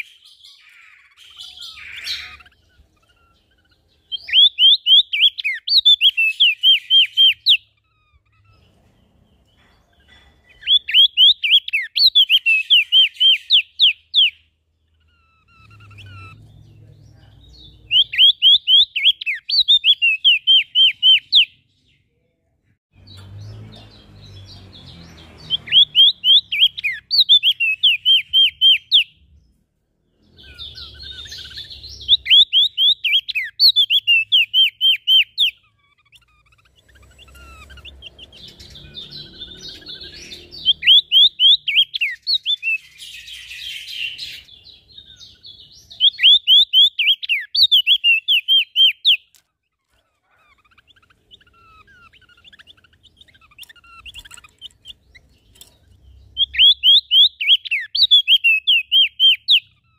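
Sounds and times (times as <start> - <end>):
soft bird chattering: 0.0 - 21.7, 23.0 - 29.4, 30.1 - 59.9
songbirds chirping: 0.0 - 59.9.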